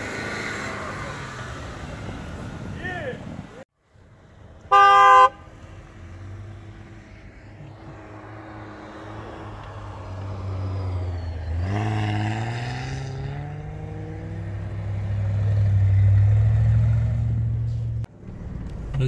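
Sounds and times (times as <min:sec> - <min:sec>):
engines droning in snow: 0:00.0 - 0:19.0.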